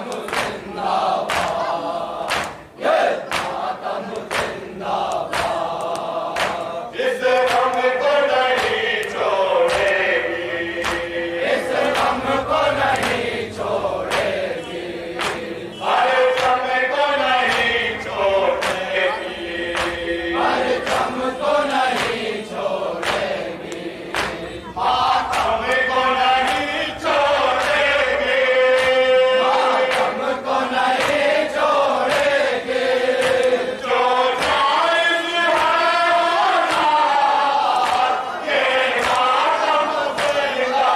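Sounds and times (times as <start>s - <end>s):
men chanting a lament: 0.0s - 40.9s.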